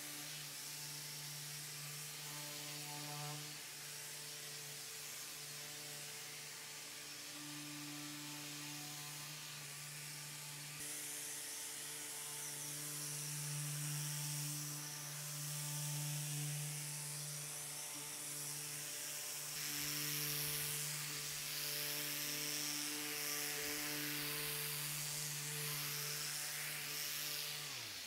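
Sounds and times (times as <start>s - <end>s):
orbital sander buzzing: 0.0s - 28.0s.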